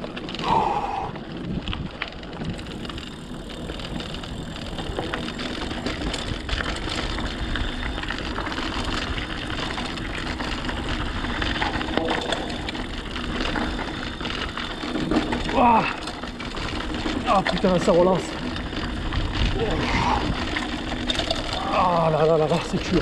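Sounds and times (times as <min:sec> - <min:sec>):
bike clicks and rattles: 0:00.0 - 0:23.0
bike tyres rolling on rough track: 0:00.0 - 0:23.0
wind rumble on microphone: 0:00.0 - 0:23.0.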